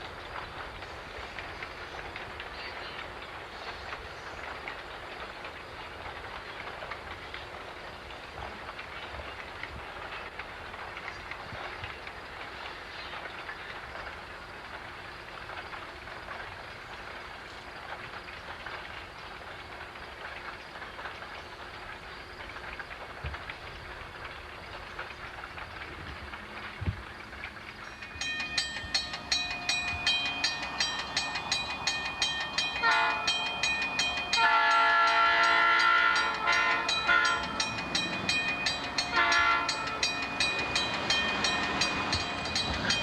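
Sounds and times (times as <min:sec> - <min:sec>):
freight train rolling by: 0:00.0 - 0:43.0
train wheels clicking on rails: 0:00.0 - 0:43.0.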